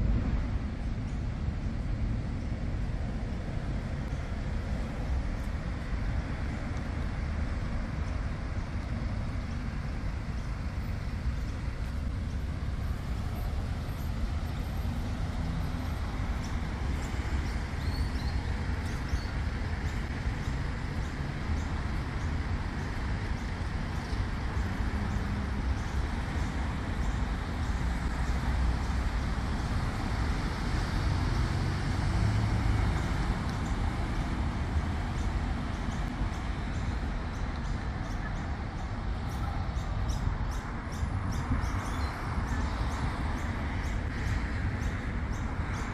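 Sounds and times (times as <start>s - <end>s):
bus passing: 0.0s - 45.9s
city street traffic: 0.0s - 45.9s.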